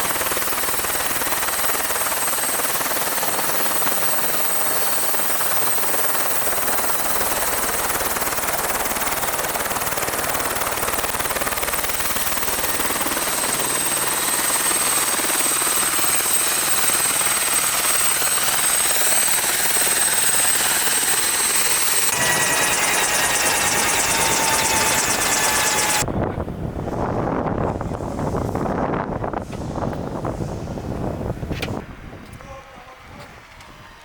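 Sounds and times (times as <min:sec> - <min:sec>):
helicopter rotor and turbine: 0:00.0 - 0:32.3.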